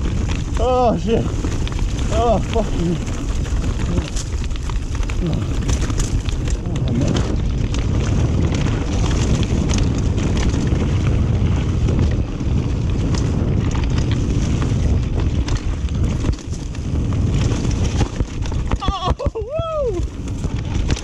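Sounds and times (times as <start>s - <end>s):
bike knocking and rattling: 0.0s - 21.0s
tyre rumble on dirt trail: 0.0s - 21.0s
wind rushing over microphone: 0.0s - 21.0s.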